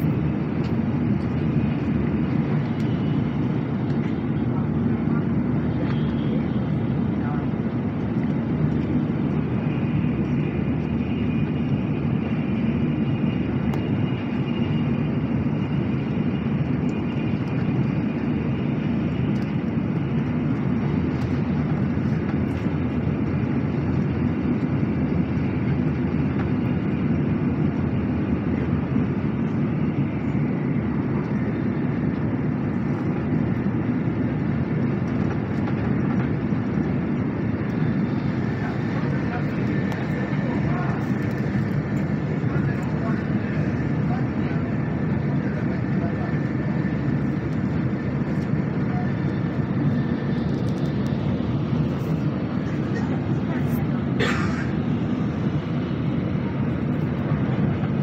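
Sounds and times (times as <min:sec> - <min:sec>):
train rumble inside cabin: 0:00.0 - 0:58.0.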